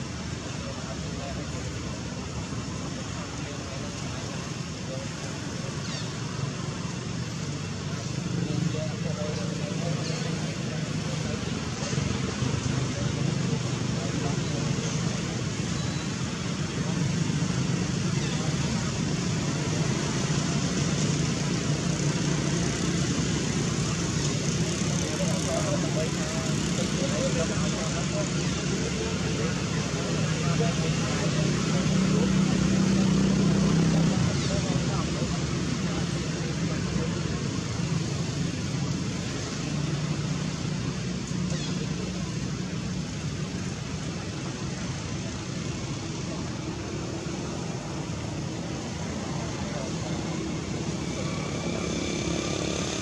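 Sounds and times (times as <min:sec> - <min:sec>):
constant hiss: 0:00.0 - 0:53.0.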